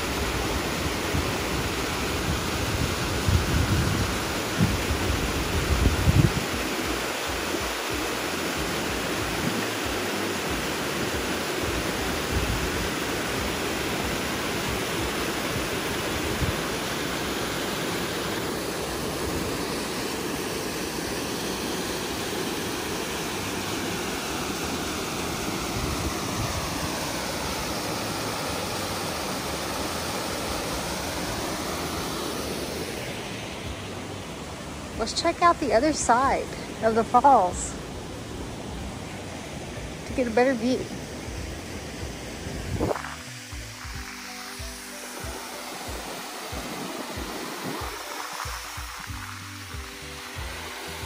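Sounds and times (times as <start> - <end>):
waterfall rushing over bedrock: 0.0 - 51.0.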